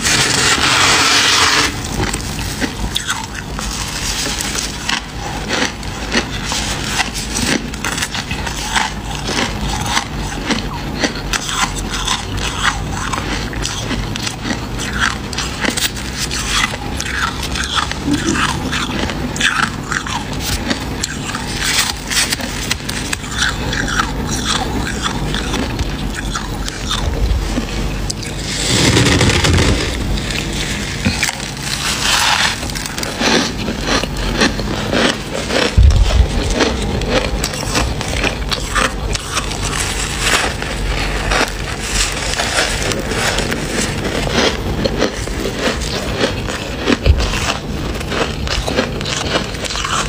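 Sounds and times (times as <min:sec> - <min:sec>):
frost crunching as chewed: 0:00.0 - 0:50.0.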